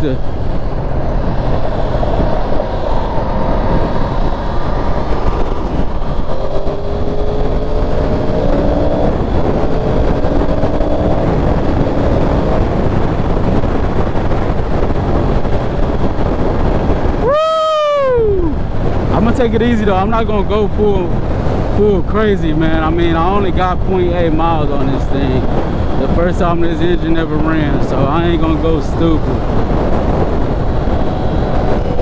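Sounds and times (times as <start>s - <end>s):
motorcycle engine cruising: 0.0s - 17.2s, 18.4s - 32.0s
wind rushing on microphone: 0.0s - 32.0s.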